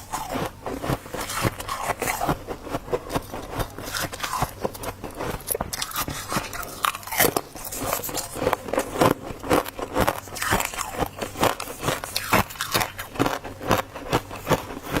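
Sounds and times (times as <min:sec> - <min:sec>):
frost crunching as chewed: 0:00.0 - 0:15.0.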